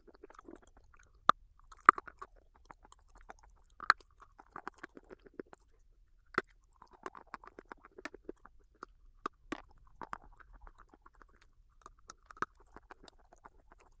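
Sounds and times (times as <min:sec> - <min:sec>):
person chewing crunchy stone: 0:00.0 - 0:14.0.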